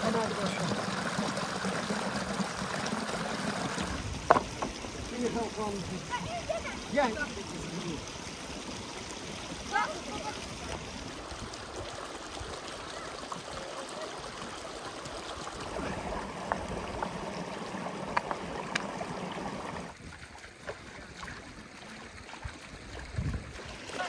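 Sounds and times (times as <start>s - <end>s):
stream running over stones: 0.0s - 24.0s.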